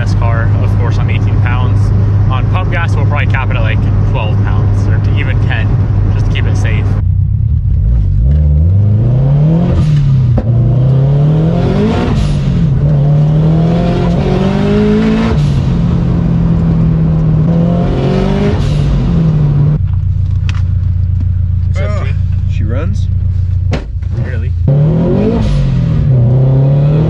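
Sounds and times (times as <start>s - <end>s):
car engine accelerating hard: 0.0s - 23.1s, 24.0s - 27.0s.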